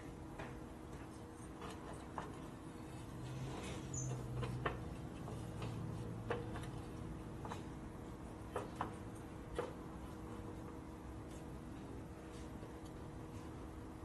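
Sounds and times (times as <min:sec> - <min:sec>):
low shop hum: 0:00.0 - 0:14.0.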